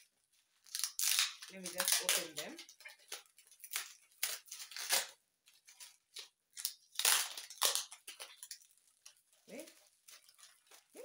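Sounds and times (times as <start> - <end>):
packaging crackling and tearing: 0.6 - 11.0.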